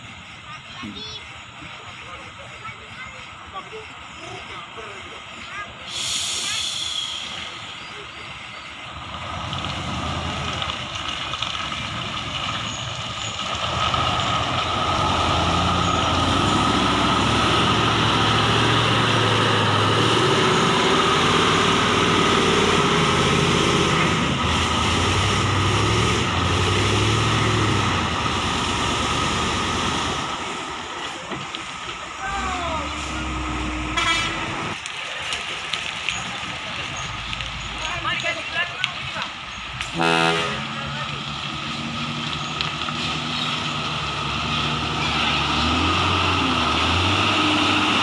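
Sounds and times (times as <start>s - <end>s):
truck diesel engine labouring: 0.0s - 48.0s.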